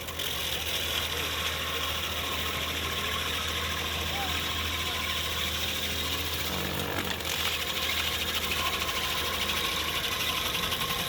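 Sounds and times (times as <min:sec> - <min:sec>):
engine hum: 0:00.0 - 0:11.0
grinding wheel whirring: 0:00.0 - 0:11.0
fast even chatter: 0:00.4 - 0:11.0.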